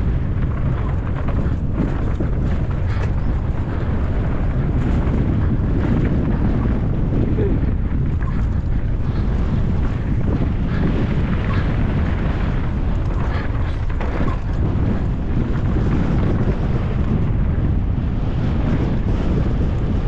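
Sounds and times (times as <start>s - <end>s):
bike knocks and rattles: 0.0s - 20.0s
tyres rumbling over dirt: 0.0s - 20.0s
wind buffeting microphone: 0.0s - 20.0s.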